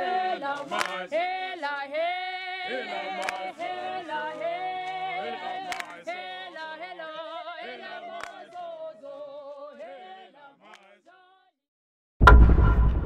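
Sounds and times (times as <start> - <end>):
voices singing in harmony: 0.0 - 11.5.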